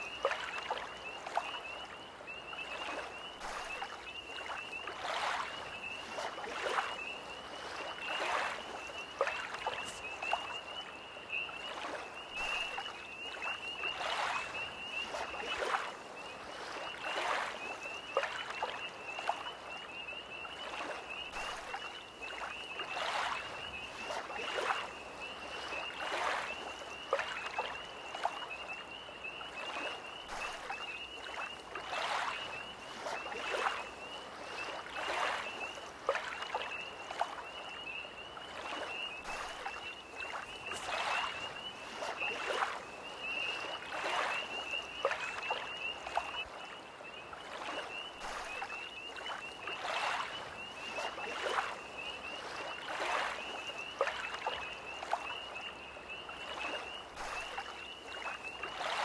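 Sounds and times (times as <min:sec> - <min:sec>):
lake waves lapping on shore: 0:00.0 - 0:59.0
tree frogs trilling: 0:00.0 - 0:59.0.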